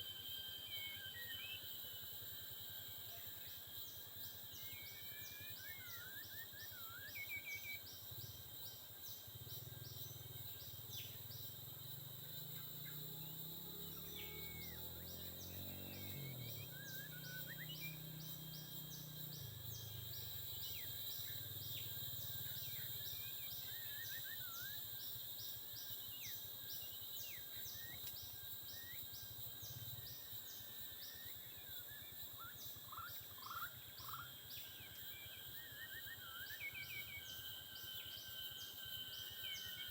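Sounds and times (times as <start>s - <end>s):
insects chorus pulsing: 0.0s - 39.9s.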